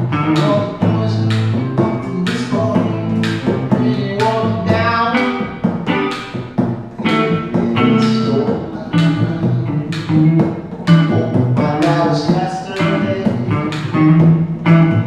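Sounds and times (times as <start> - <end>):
acoustic guitar: 0.0 - 15.0
electric guitar: 0.0 - 15.0.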